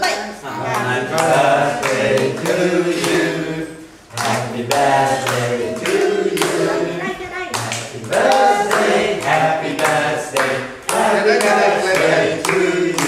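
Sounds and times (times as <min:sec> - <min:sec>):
group singing unaccompanied: 0:00.4 - 0:13.0
hands clapping: 0:00.7 - 0:03.3, 0:04.1 - 0:06.6, 0:07.5 - 0:13.0.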